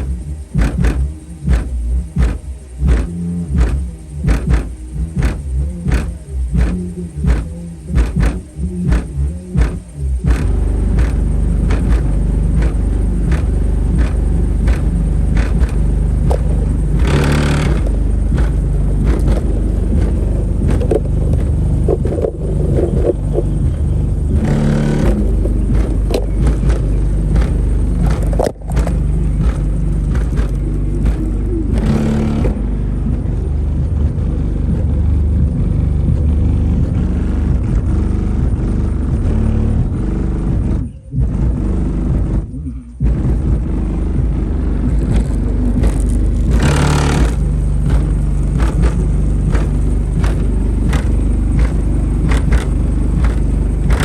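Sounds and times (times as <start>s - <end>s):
loud bass-heavy music: 0.0s - 54.0s.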